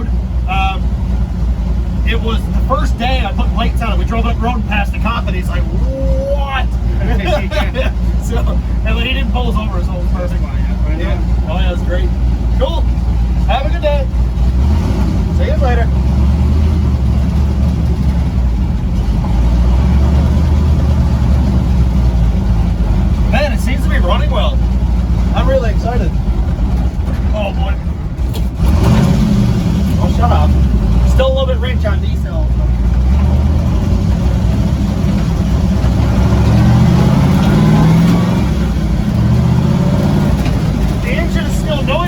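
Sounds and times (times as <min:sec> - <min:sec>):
truck engine deep exhaust note: 0:00.0 - 0:42.0.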